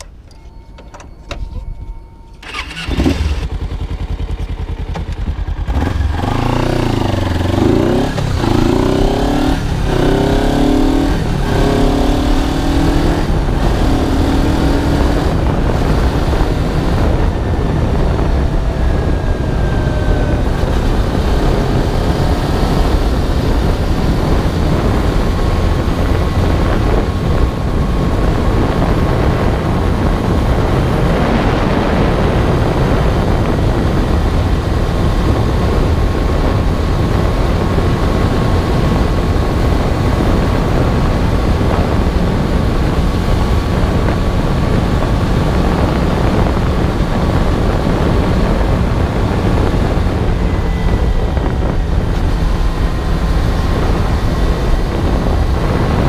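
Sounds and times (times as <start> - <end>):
motorcycle engine accelerating: 1.0 - 56.0
wind rush on microphone: 2.5 - 56.0.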